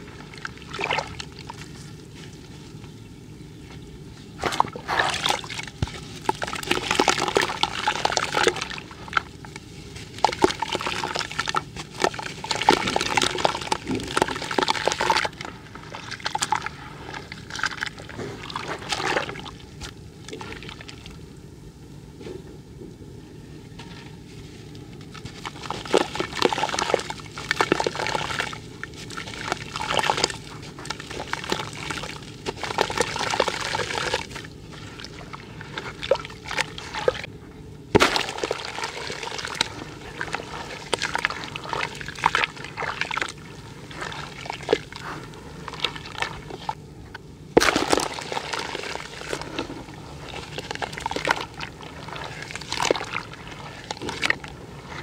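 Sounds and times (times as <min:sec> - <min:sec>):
water splashing and sloshing: 0:00.0 - 0:21.4, 0:23.7 - 0:55.0
hands crushing wet clay: 0:03.6 - 0:21.0, 0:24.8 - 0:37.3, 0:37.9 - 0:46.8, 0:47.5 - 0:55.0.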